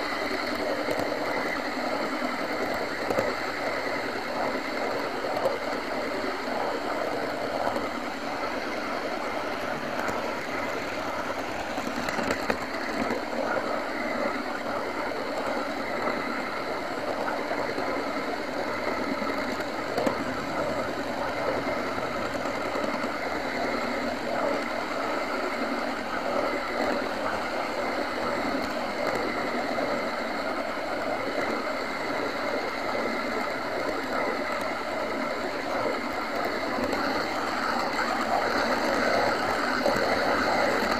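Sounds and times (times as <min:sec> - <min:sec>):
model train whirring and rattling: 0:00.0 - 0:40.9
rapid clicking of wheels: 0:00.0 - 0:40.9.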